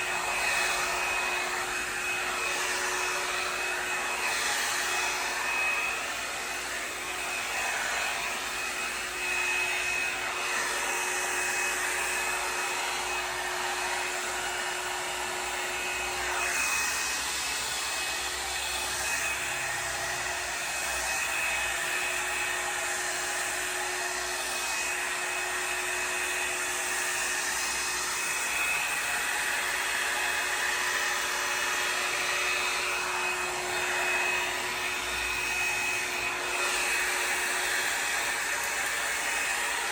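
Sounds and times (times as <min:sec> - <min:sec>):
hot-air brush blowing: 0:00.0 - 0:39.9.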